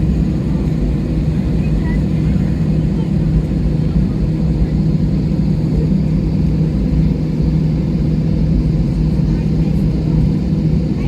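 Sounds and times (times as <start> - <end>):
airliner engines idling: 0.0 - 11.0.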